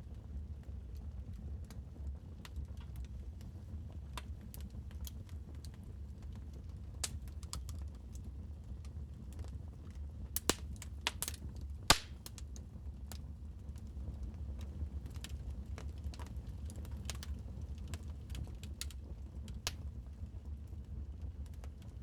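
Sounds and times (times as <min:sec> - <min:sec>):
wood fire crackling: 0:00.3 - 0:22.0.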